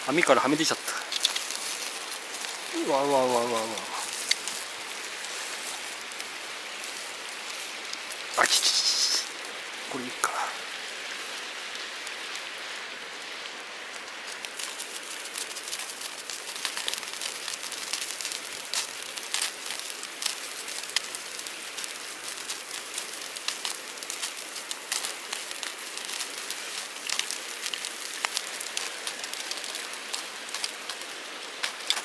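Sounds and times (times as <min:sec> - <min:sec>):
meat sizzling over campfire: 0:00.0 - 0:32.0.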